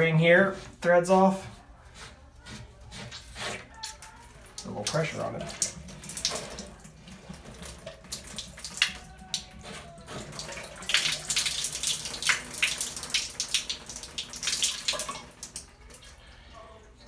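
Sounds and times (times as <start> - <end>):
water splashing from shower valve: 3.1 - 17.0.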